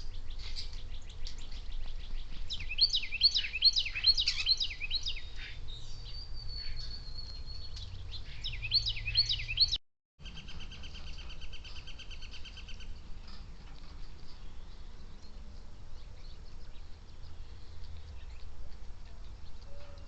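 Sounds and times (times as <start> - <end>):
small songbirds singing: 0.0 - 20.0.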